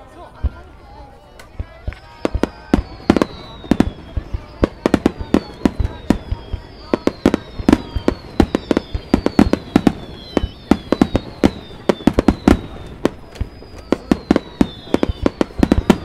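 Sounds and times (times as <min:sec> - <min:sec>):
fireworks booms and bangs: 0:00.2 - 0:16.0
firework whistles sliding down: 0:01.6 - 0:16.0.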